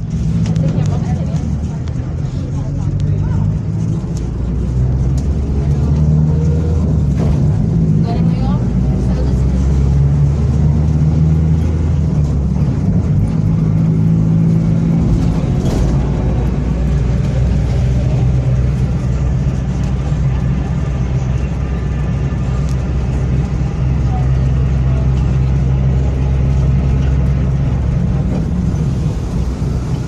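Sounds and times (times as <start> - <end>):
bus diesel engine droning: 0.0 - 30.0.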